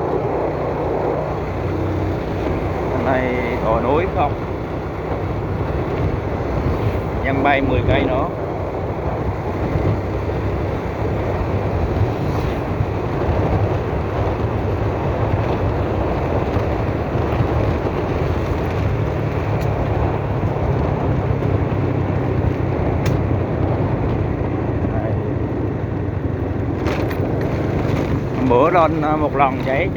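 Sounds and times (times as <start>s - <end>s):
engine and road rumble: 0.0s - 29.9s
wind rushing over microphone: 0.0s - 29.9s.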